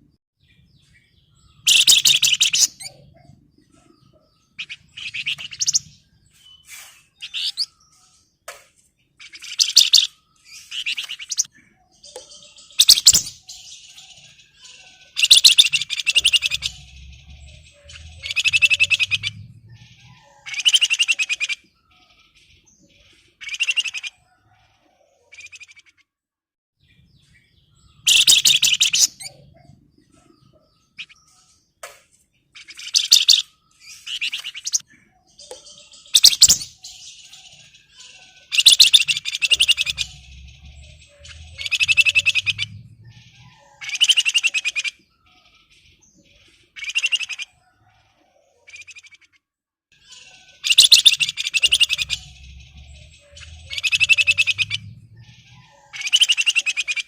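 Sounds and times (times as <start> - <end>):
bird chattering song: 0.0 - 26.0, 26.8 - 57.0.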